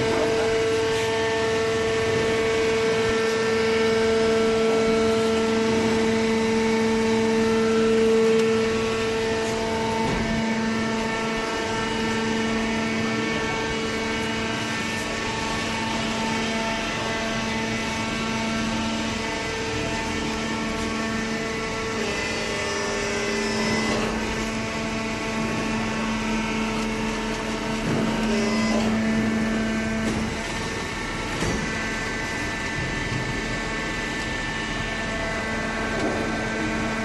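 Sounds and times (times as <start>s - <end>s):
hydraulic power unit humming: 0.0s - 37.0s.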